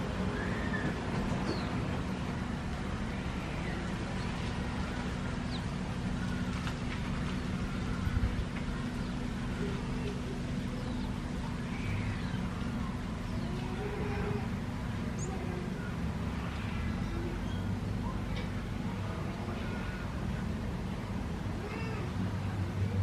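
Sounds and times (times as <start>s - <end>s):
distant road traffic rumble: 0.0s - 23.0s.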